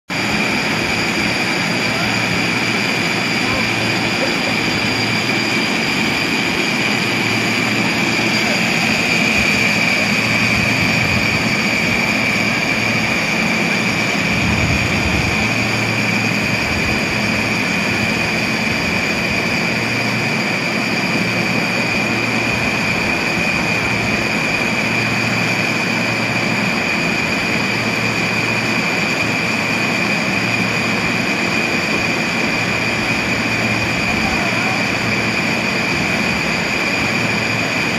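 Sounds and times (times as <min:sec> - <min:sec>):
cable whirring with high whine: 0:00.1 - 0:37.9.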